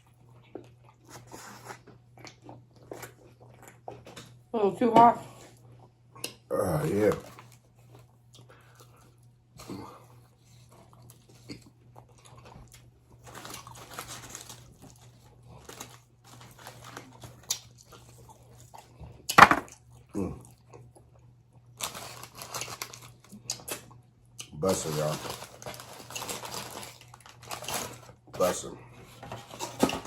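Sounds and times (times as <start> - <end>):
chewing and crunching food: 0.0 - 4.5, 5.2 - 30.0.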